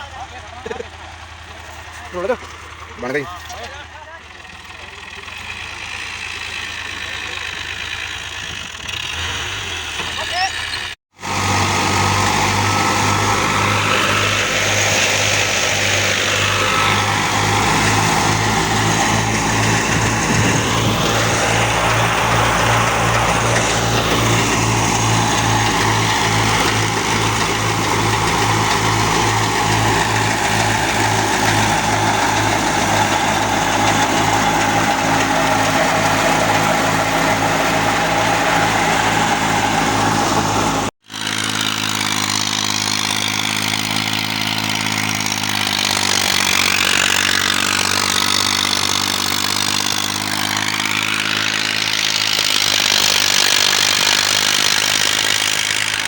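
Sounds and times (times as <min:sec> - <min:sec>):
tractor engine pulsing: 0:00.0 - 0:56.0
wheat thresher humming: 0:00.0 - 0:56.0.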